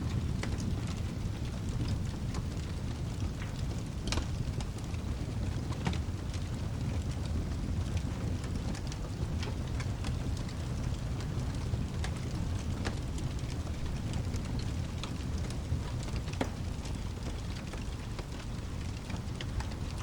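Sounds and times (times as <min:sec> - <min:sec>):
fireplace crackling: 0:00.0 - 0:20.0
low rumble of rain: 0:00.0 - 0:20.0.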